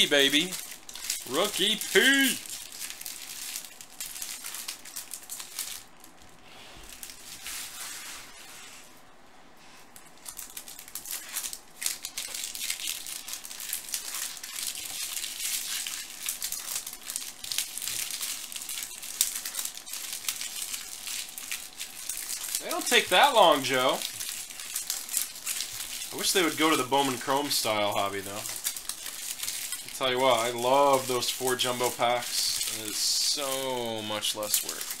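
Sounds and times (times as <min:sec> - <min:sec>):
foil wrappers crinkling and tearing: 0:00.0 - 0:08.6, 0:09.8 - 0:35.0.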